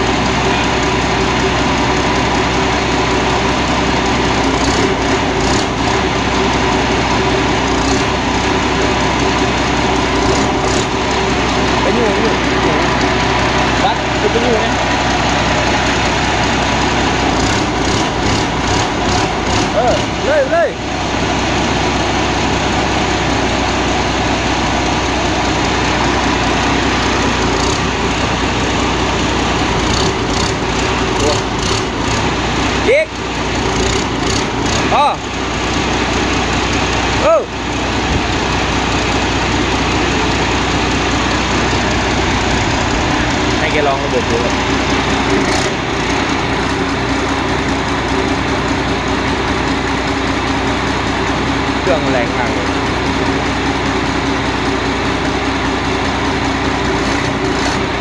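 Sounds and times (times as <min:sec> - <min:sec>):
harvester engine droning: 0:00.0 - 0:58.0.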